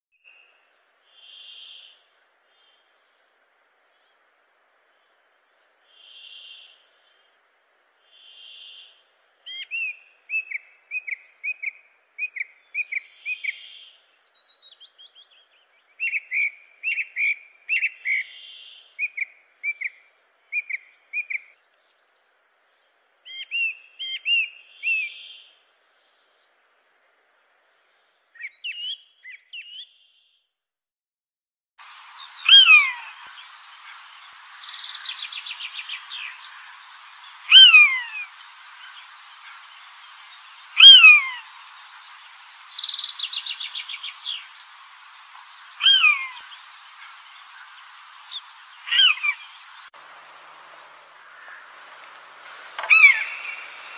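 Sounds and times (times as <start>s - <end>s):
faint steady hiss: 0.2s - 29.5s, 31.8s - 53.9s
songbirds chirping: 0.2s - 30.6s, 31.8s - 53.9s.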